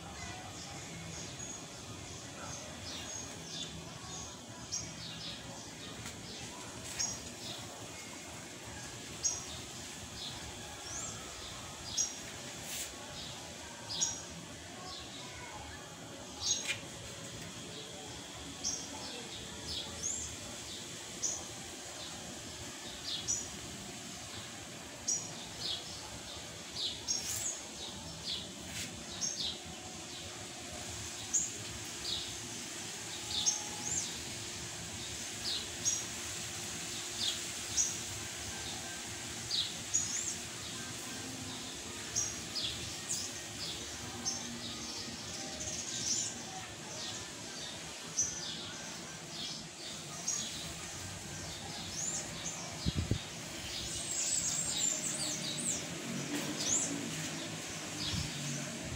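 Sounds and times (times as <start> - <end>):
steady background noise: 0.0 - 58.9.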